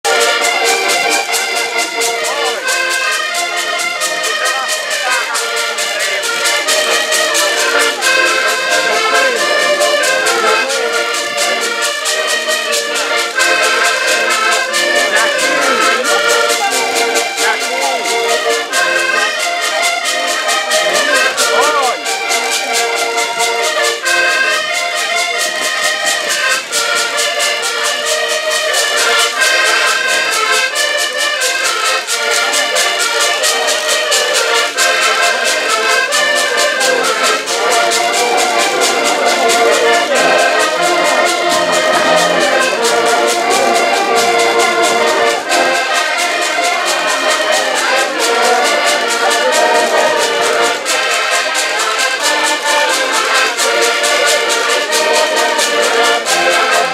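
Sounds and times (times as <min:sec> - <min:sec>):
piano and accordions playing: 0:00.0 - 0:56.9.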